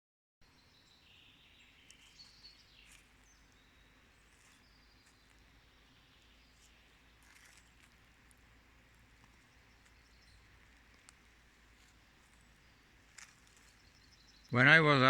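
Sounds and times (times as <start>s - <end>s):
birds chirping and trilling: 0.4s - 15.0s
low steady hiss: 0.4s - 15.0s.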